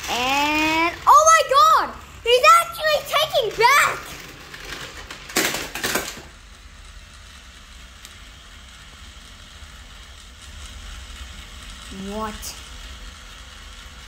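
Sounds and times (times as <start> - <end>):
plastic toy trains clattering: 0.0 - 13.8.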